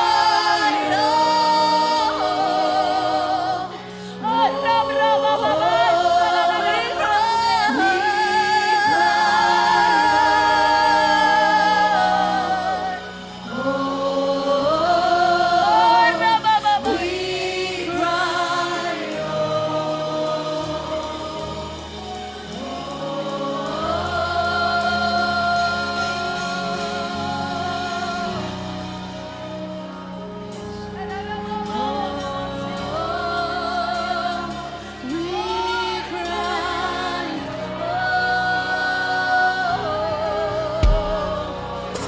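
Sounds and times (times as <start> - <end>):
sustained instrumental accompaniment: 0.0 - 42.0
voices singing gospel music: 0.0 - 42.0.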